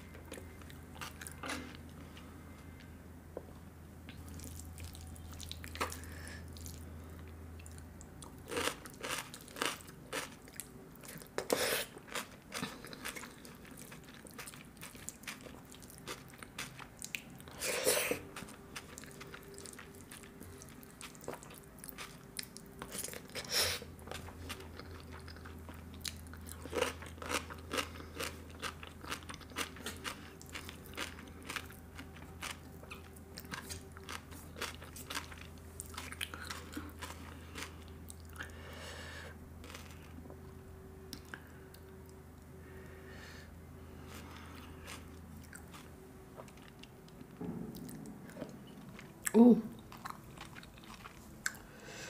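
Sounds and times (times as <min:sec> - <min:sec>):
chewing with crunches: 0:04.1 - 0:38.6, 0:39.6 - 0:40.4, 0:43.9 - 0:51.8.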